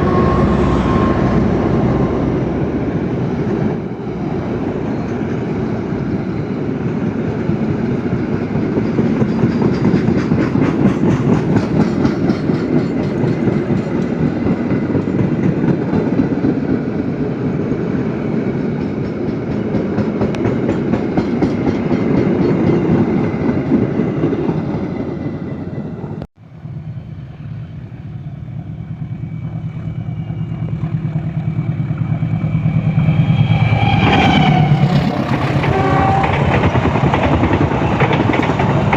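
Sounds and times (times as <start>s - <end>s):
locomotive engine humming: 0.0s - 38.9s
train wheels rumbling on rails: 0.0s - 38.9s.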